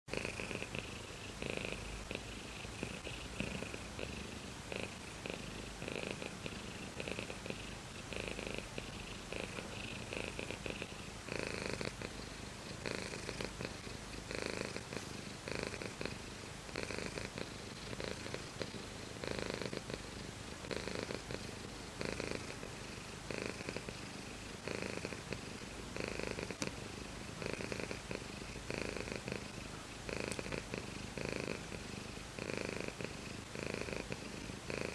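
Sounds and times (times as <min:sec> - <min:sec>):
cat purring: 0:00.1 - 0:34.9.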